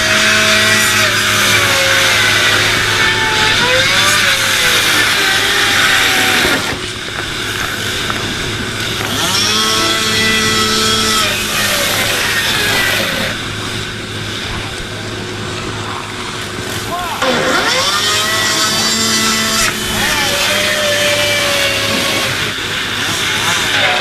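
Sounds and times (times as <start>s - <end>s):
engine revving: 0.0s - 24.0s
steady low hum: 0.0s - 24.0s.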